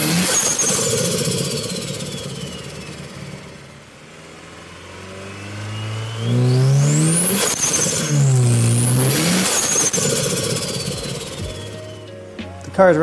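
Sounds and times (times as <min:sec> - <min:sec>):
car engine accelerating hard: 0:00.0 - 0:12.3
turbo whine: 0:00.0 - 0:12.8.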